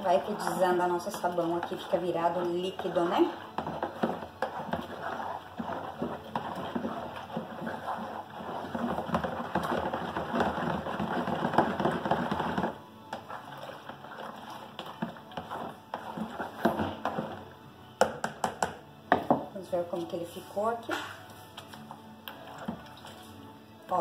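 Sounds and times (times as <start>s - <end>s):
liquid soap sloshing in a bowl: 0.0s - 17.5s, 21.3s - 24.0s.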